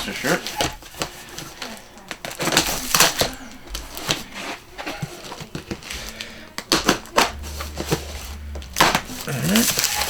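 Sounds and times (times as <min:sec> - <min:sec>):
cardboard packaging torn open: 0:00.0 - 0:04.2, 0:05.1 - 0:10.0.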